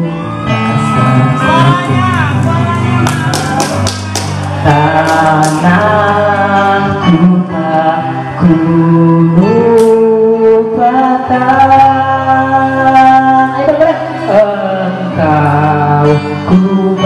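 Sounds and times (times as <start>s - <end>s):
man singing into microphone: 0.0s - 3.3s, 4.3s - 17.0s.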